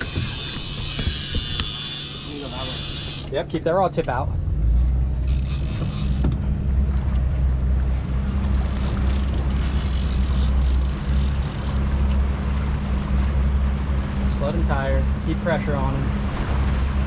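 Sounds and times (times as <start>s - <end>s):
boat engine humming: 0.0s - 17.0s
water rushing: 0.0s - 17.0s.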